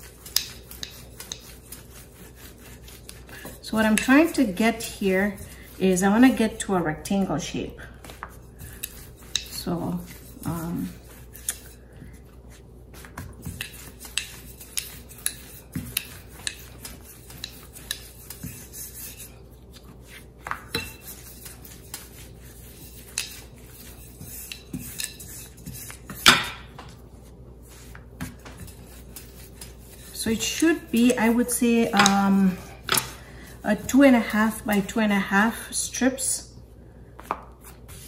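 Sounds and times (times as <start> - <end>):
rolling pin rubbing on dough: 0.0 - 36.0, 37.2 - 38.0.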